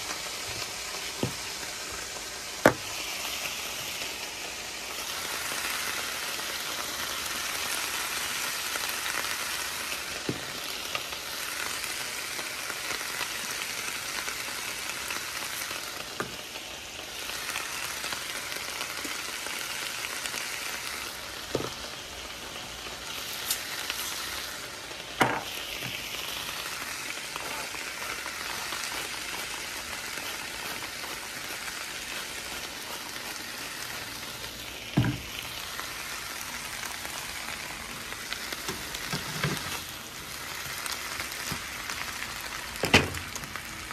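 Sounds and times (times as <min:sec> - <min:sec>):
vegetables sizzling in a frying pan: 0:00.0 - 0:43.9.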